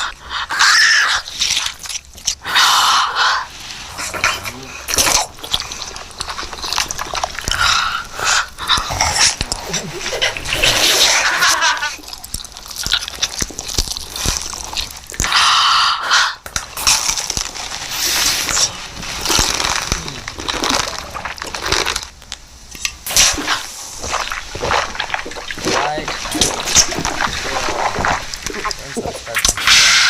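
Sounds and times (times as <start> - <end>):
food crunching being chewed: 0.0 - 30.0.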